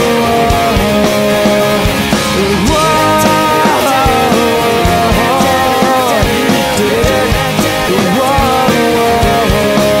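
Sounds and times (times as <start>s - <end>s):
rock music with drum beat: 0.0s - 10.0s.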